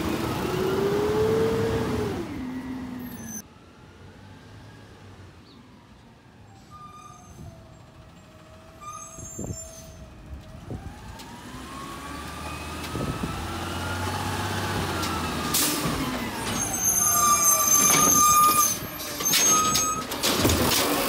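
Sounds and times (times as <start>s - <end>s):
garbage truck engine: 0.0s - 3.4s, 6.7s - 21.0s.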